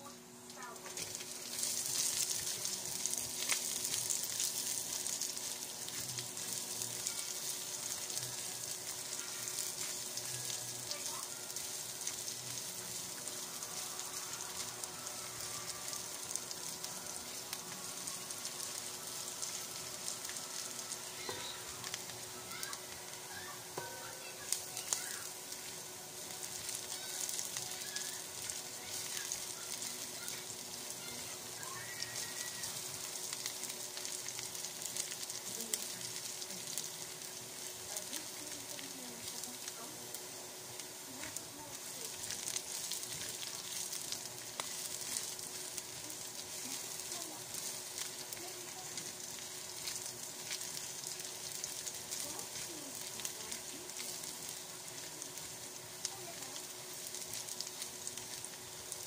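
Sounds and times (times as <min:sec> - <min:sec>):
garlic sizzling in oil: 0:00.0 - 0:59.0.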